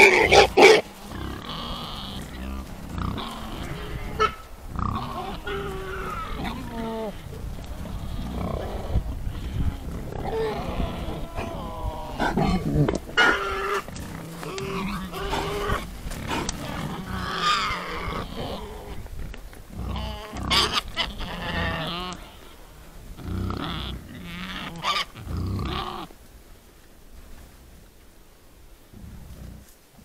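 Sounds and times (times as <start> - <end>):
wild boar grunting and squealing: 0.0 - 26.2.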